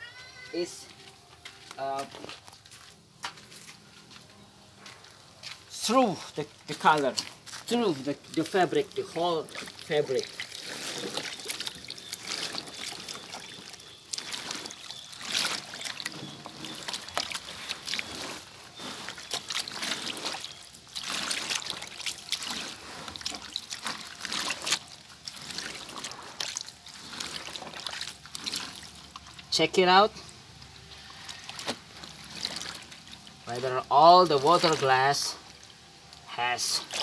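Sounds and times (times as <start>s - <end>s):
water sloshing and trickling: 4.8s - 37.0s
hands kneading wet cloth: 5.4s - 37.0s.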